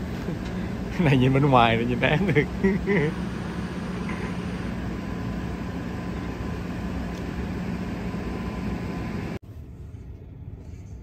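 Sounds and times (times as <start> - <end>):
whirring machine hum: 0.0 - 11.0.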